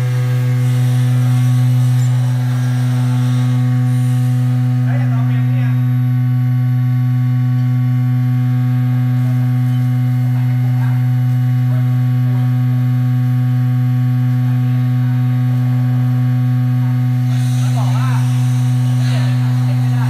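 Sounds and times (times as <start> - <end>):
vibration motor low hum: 0.0 - 20.0.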